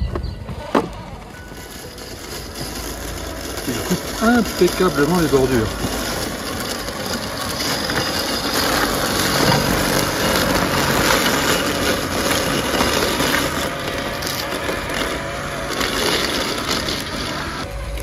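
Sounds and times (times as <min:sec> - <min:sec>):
robotic mower motor hum: 0:00.4 - 0:18.0
mower blade rushing: 0:00.5 - 0:18.0.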